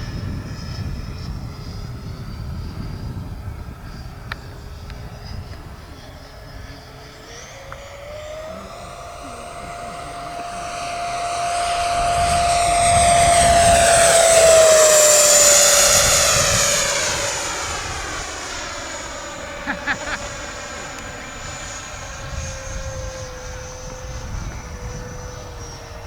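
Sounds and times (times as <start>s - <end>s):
electric ducted fan whining: 0.0s - 26.0s.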